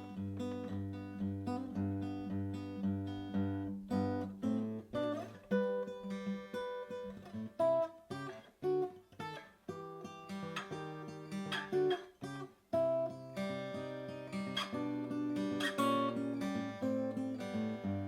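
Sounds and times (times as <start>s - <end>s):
acoustic guitar fingerpicking: 0.0s - 18.0s.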